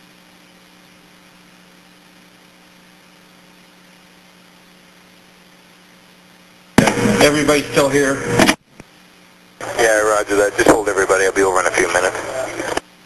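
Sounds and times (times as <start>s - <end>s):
low electrical hum: 0.0s - 13.0s
radio static hiss: 0.0s - 13.0s.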